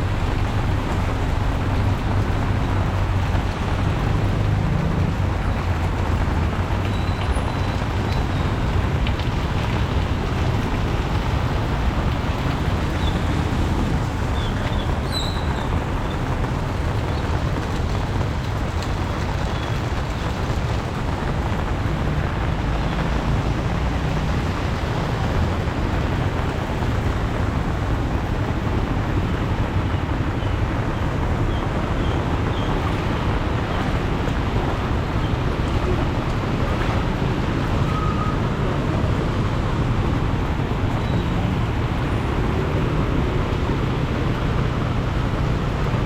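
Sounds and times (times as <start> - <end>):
heavy rain: 0.0 - 46.0
road traffic: 0.0 - 46.0.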